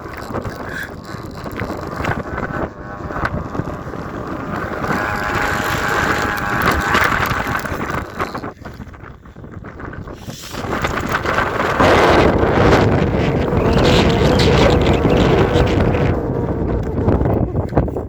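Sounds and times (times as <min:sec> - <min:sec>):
kite hummer bow droning: 0:00.0 - 0:18.0
wind rumble on microphone: 0:00.0 - 0:18.0.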